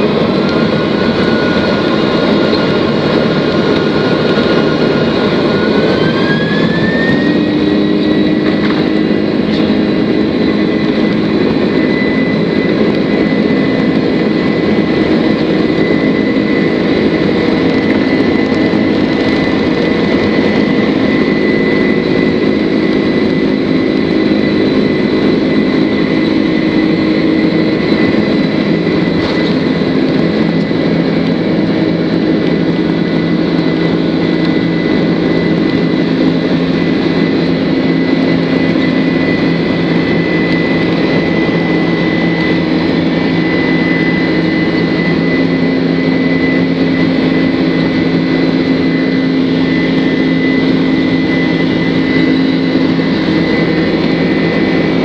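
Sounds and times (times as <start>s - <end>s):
jet engines rushing with whine: 0.0s - 55.0s.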